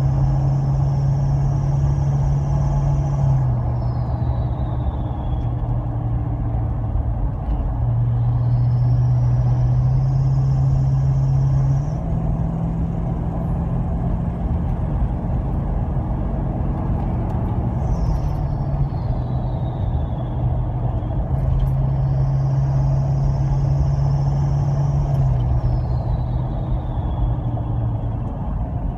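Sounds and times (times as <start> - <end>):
diesel engine hum: 0.0 - 28.9.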